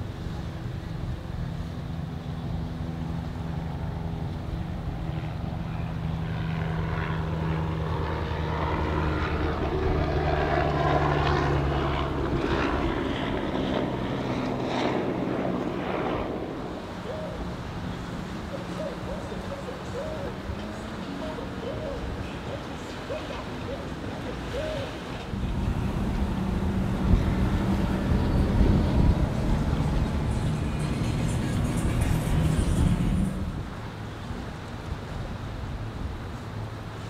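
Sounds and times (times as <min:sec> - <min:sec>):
boat engines droning: 0:00.0 - 0:37.0.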